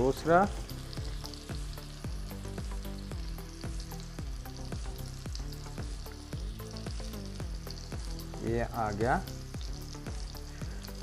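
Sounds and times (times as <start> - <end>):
butter sizzling in a frying pan: 0.0 - 11.0.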